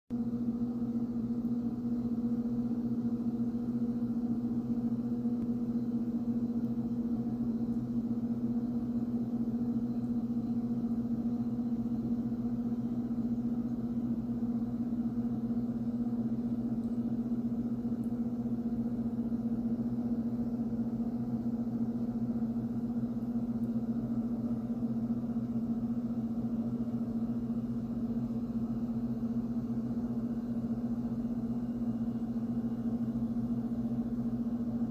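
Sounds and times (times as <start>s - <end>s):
low electrical hum: 0.1s - 34.9s.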